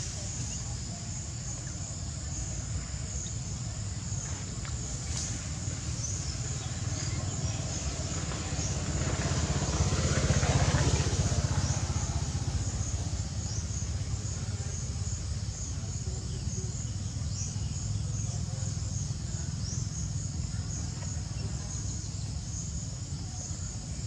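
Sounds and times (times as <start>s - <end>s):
insects chirping: 0.0s - 24.0s
low steady rumble: 0.0s - 24.0s.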